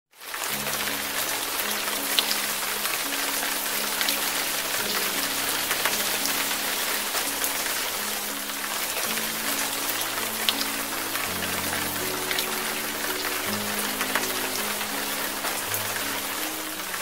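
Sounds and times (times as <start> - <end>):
rain falling on leaves: 0.1 - 17.0
soft music of low held notes: 0.2 - 17.0.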